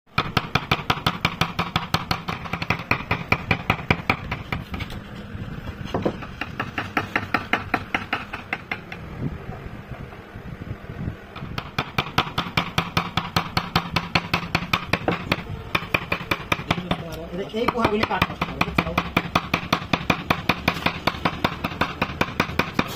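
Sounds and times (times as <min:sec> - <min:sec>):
steady low hum: 0:00.2 - 0:22.9.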